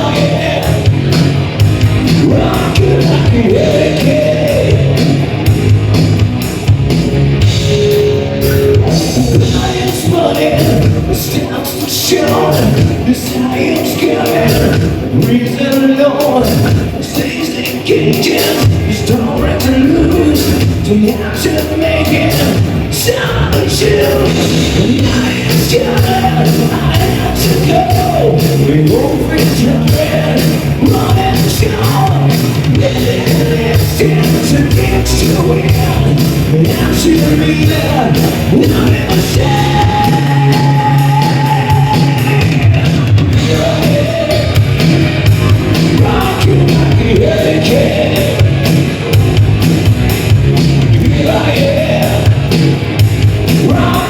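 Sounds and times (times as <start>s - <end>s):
person singing: 0.0s - 1.3s, 2.0s - 5.3s, 7.9s - 49.5s, 50.9s - 52.6s, 53.5s - 54.0s
drums steady beat: 0.0s - 54.0s
live rock band: 0.0s - 54.0s.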